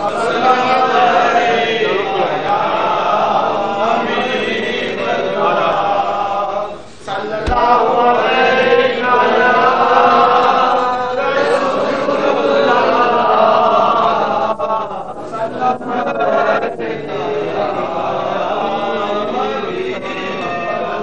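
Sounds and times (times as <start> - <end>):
men chanting together: 0.0 - 21.0.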